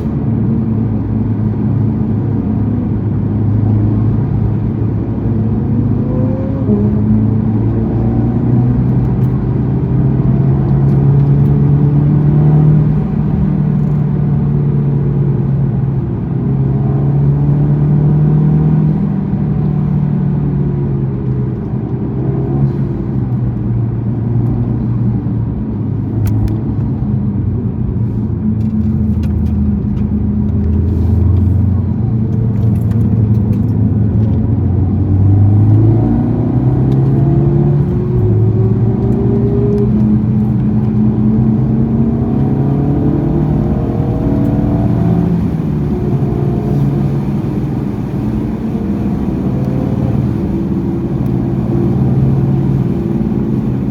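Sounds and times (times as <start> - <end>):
car engine revving and shifting: 0.0 - 27.1, 27.7 - 53.9.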